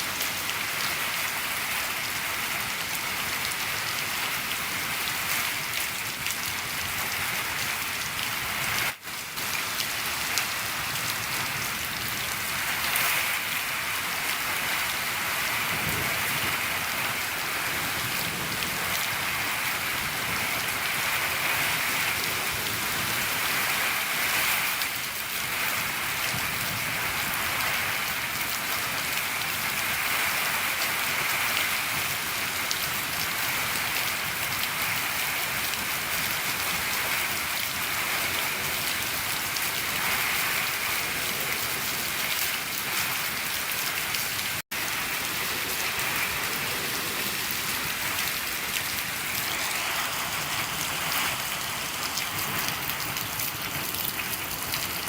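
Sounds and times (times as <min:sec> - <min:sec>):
rain on a shed roof: 0:00.0 - 0:55.0.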